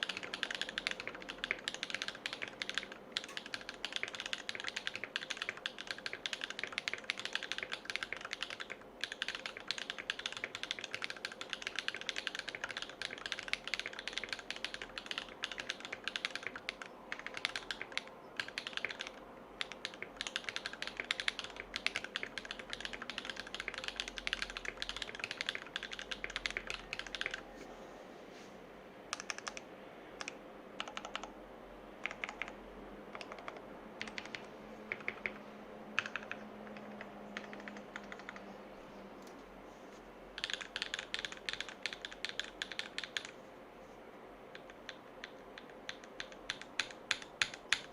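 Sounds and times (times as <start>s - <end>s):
fast typing on mechanical keyboard: 0.0s - 27.4s, 29.1s - 29.6s, 30.2s - 31.3s, 32.0s - 35.4s, 36.0s - 38.5s, 40.4s - 43.4s, 44.5s - 47.9s.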